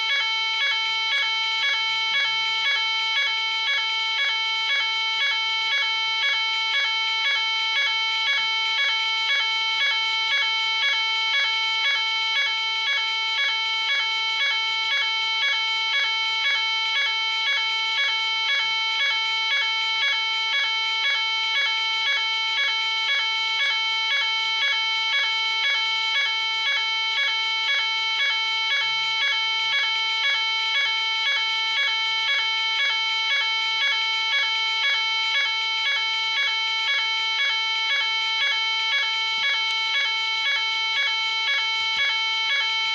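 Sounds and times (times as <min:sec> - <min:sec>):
pulsing fire alarm tone: 0:00.0 - 0:42.9.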